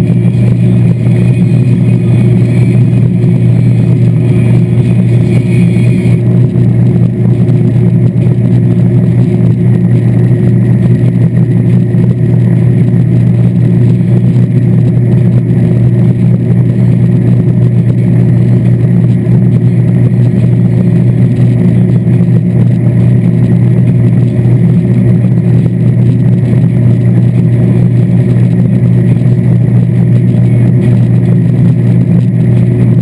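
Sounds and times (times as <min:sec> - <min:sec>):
boat engine low drone: 0:00.0 - 0:33.0
churning wake water: 0:00.0 - 0:33.0.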